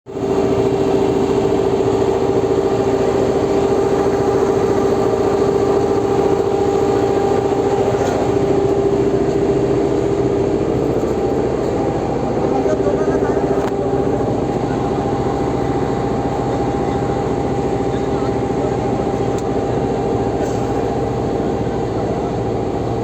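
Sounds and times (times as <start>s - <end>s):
boat engine droning: 0.1s - 23.0s.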